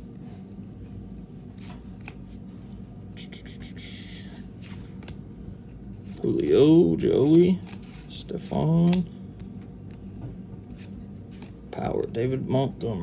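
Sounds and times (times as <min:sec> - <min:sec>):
trading cards clicking and sliding: 0:00.1 - 0:05.2, 0:06.0 - 0:12.3.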